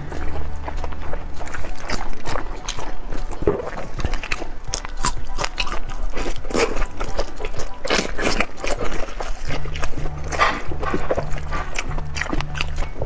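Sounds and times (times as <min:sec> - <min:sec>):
wet chewing and smacking: 0:00.0 - 0:13.0.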